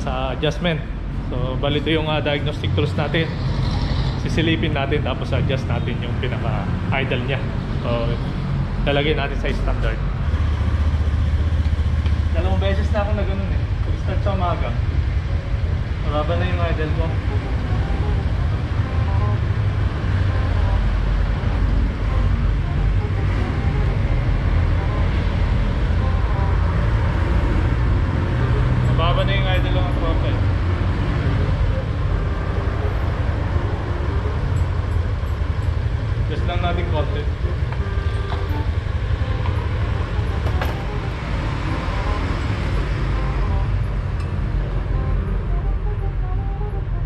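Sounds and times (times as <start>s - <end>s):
low rumble of vehicle noise: 0.0s - 47.0s.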